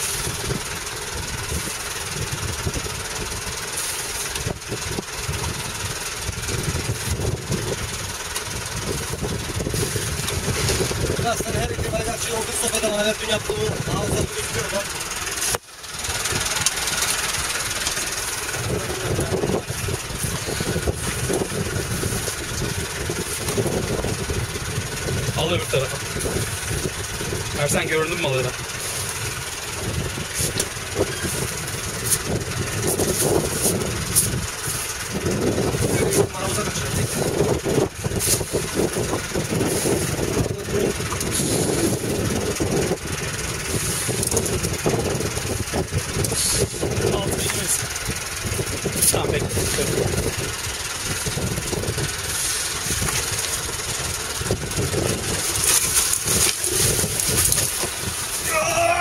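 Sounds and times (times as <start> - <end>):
boat engine idling: 0.0 - 59.0
wind: 0.0 - 59.0.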